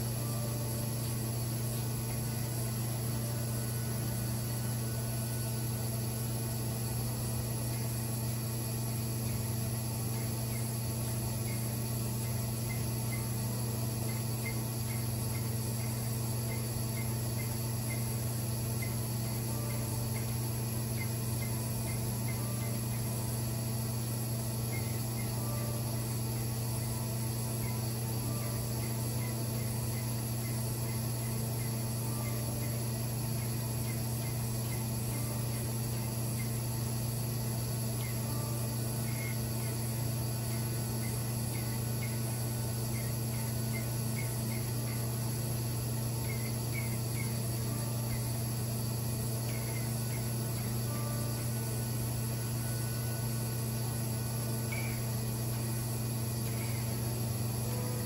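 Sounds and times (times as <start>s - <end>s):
machine motor humming: 0.0s - 58.0s.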